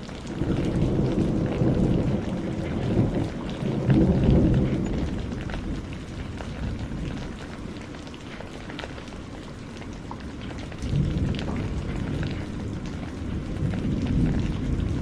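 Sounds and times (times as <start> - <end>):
rain pattering: 0.0 - 15.0
thunder rumbling: 0.0 - 15.0.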